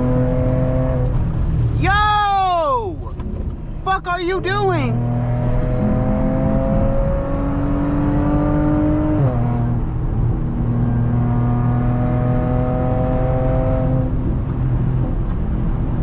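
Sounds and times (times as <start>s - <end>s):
car engine accelerating: 0.0s - 2.4s, 4.9s - 16.0s.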